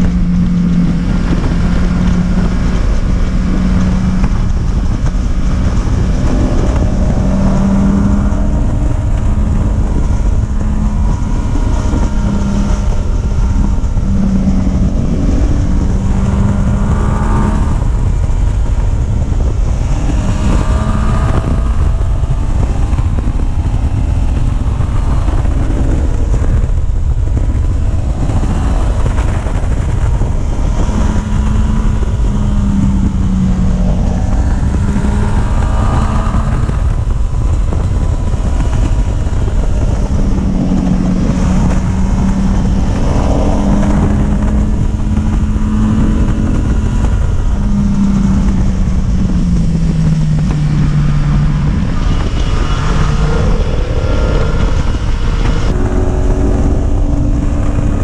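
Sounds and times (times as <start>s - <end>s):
vehicle engine running: 0.0s - 58.0s
wind rumble on microphone: 0.0s - 58.0s.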